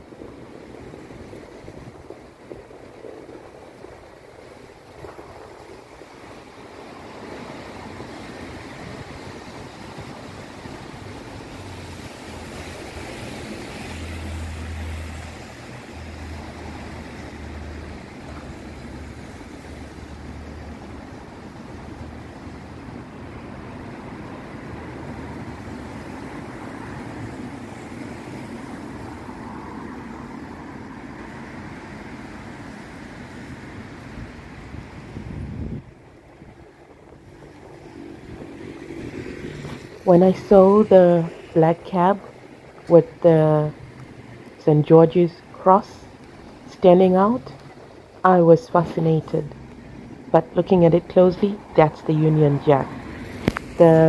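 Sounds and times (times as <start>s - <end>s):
tyres hissing on wet road: 0.0s - 48.8s, 49.5s - 50.9s, 51.5s - 54.0s
buses and cars passing: 0.0s - 54.0s.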